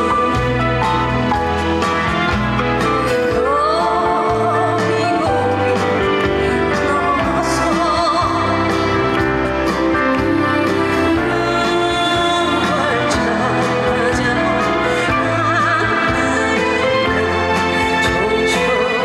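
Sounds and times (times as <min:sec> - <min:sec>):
instrumental accompaniment with bass line: 0:00.0 - 0:19.0
woman singing with vibrato: 0:02.5 - 0:19.0.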